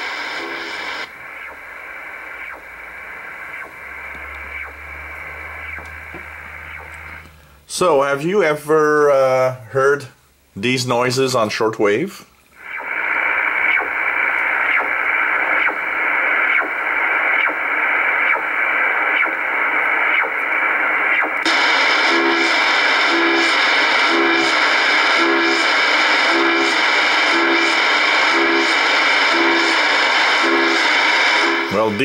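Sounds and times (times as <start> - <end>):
radar signal sweep: 0.0 - 7.4, 12.6 - 32.0
radio hiss: 0.0 - 32.0
pulsing tone: 0.1 - 7.4, 12.6 - 32.0.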